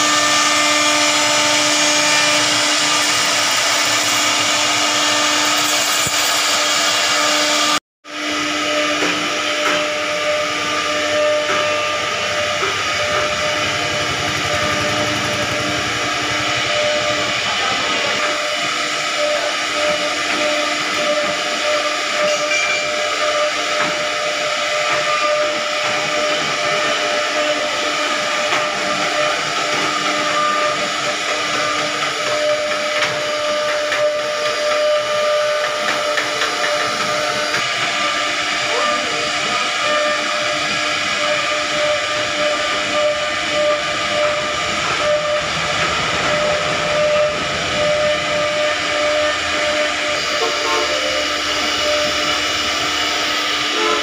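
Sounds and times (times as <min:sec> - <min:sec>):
wood router whining and hissing: 0:00.0 - 0:54.0.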